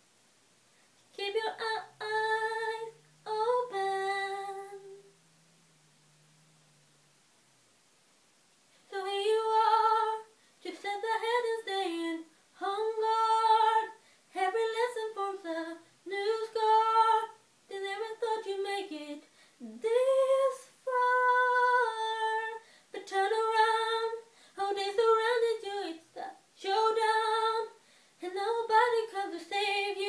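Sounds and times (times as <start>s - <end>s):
woman singing unaccompanied: 1.1s - 5.1s, 8.9s - 30.0s.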